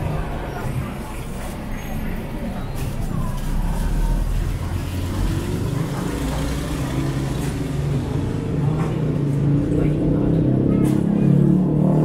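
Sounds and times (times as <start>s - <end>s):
street traffic: 0.0s - 12.0s
vehicle engine rumbling: 0.0s - 12.0s.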